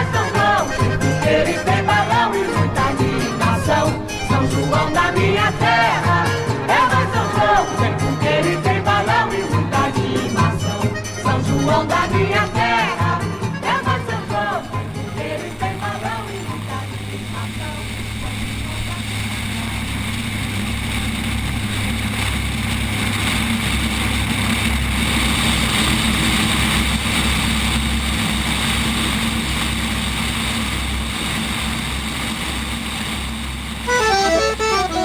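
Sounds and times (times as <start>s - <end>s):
propeller aircraft engine drone: 0.0s - 35.0s.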